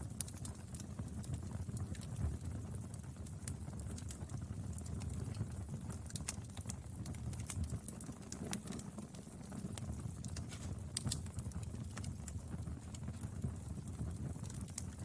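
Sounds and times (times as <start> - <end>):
burning wood crackling and popping: 0.0 - 15.0
fire low rumble: 0.0 - 15.0.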